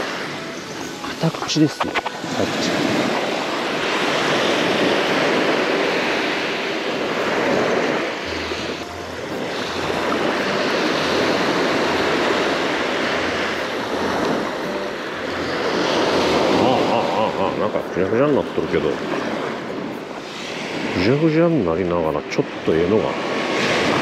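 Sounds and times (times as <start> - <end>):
surf waves breaking on beach: 0.0 - 24.0.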